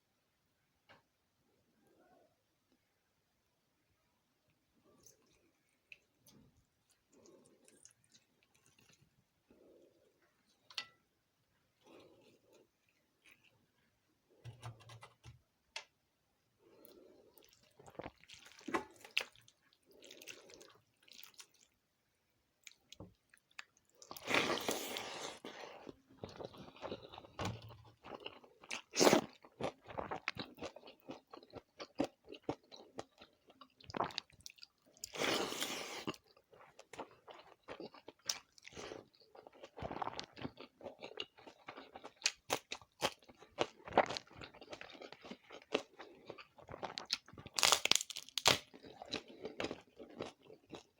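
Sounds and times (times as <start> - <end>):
chewing and crunching food: 4.5 - 15.2, 16.6 - 21.9, 22.6 - 50.9.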